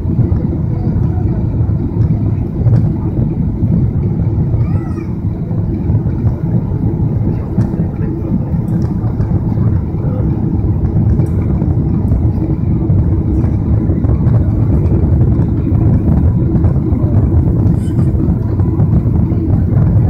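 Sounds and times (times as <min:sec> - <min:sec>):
airliner cabin engine roar: 0:00.0 - 0:20.0.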